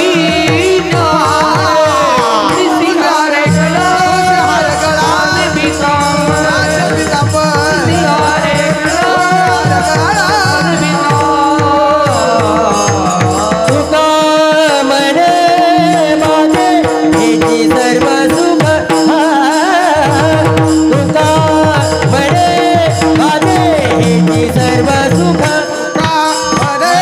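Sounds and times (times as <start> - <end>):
devotional song melody: 0.0 - 27.0
steady drum beat: 0.0 - 27.0.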